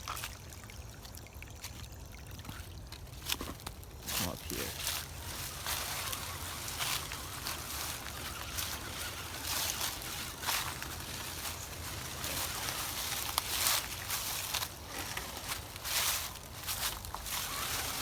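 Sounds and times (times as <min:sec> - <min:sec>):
water sloshing and splashing: 0:00.0 - 0:04.2, 0:04.8 - 0:17.4.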